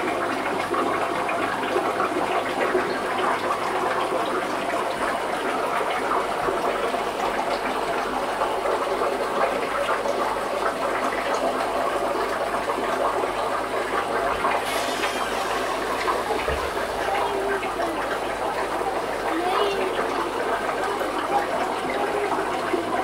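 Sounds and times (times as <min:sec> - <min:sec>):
aquarium water splashing and bubbling: 0:00.0 - 0:23.0.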